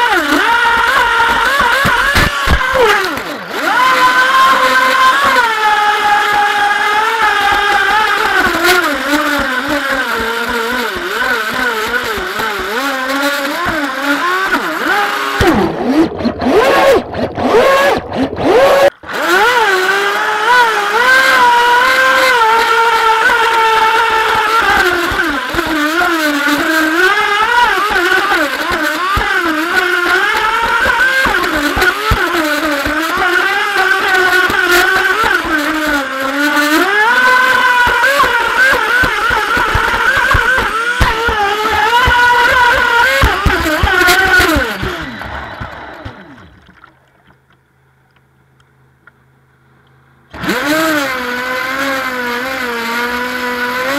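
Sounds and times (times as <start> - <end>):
electric motor whining: 0.0 - 46.9, 50.3 - 53.9.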